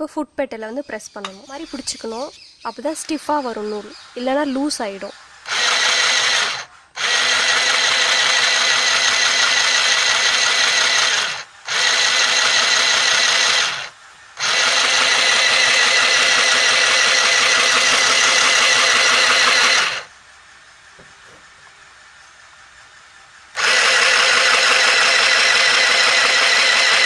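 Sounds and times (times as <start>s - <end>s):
sewing machine motor whine: 3.6s - 20.7s, 21.9s - 27.0s.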